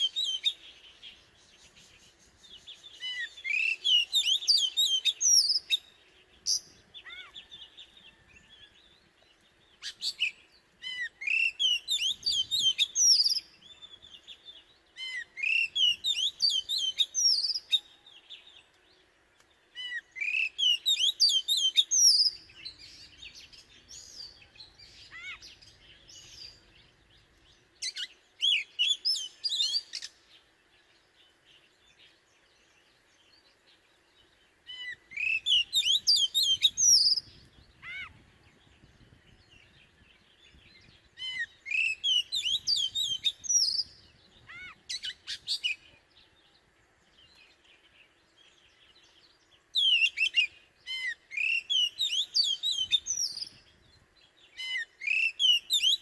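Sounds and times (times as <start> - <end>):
bird singing whistles and chirps: 0.0 - 18.8, 19.7 - 56.0.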